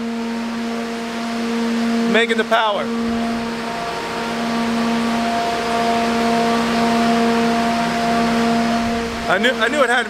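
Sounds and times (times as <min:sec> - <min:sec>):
broad rushing noise: 0:00.0 - 0:10.0
steady mechanical hum: 0:00.0 - 0:10.0.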